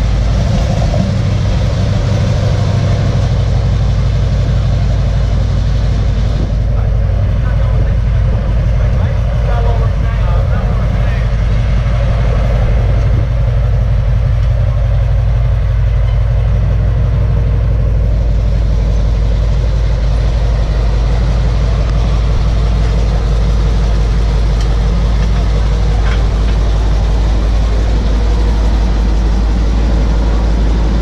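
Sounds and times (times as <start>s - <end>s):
radial engine running loudly: 0.0s - 31.0s.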